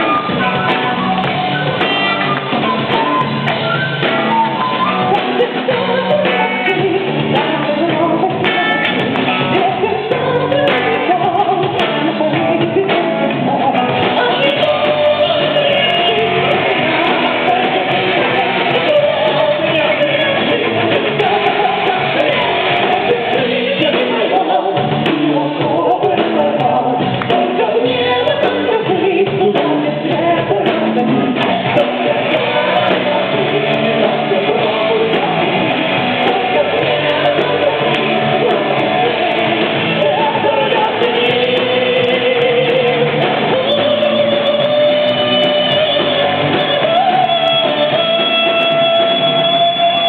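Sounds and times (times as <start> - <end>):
drums: 0.0 - 50.0
electric guitars: 0.0 - 50.0
woman singing: 0.0 - 50.0.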